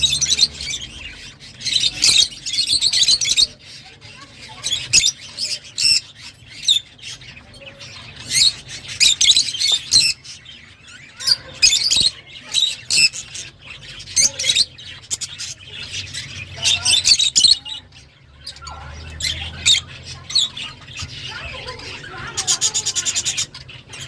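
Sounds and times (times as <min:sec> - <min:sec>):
lovebirds chirping and squawking: 0:00.0 - 0:24.0.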